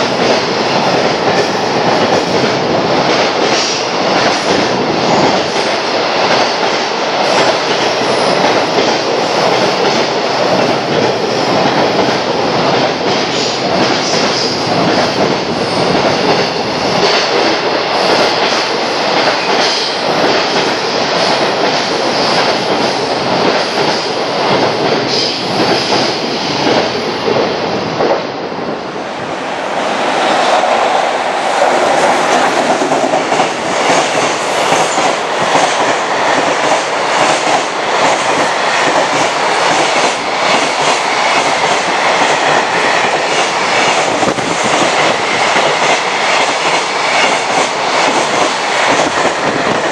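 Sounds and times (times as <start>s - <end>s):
freight train rushing past: 0.0s - 49.9s.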